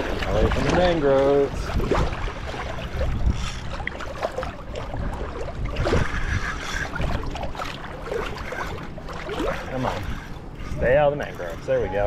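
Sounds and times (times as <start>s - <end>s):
water sloshing and splashing: 0.0s - 12.0s
wind buffeting microphone: 0.0s - 12.0s.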